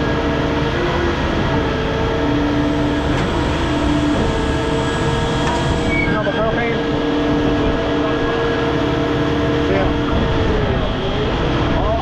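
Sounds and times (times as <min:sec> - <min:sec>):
heavy machinery drone: 0:00.0 - 0:12.0.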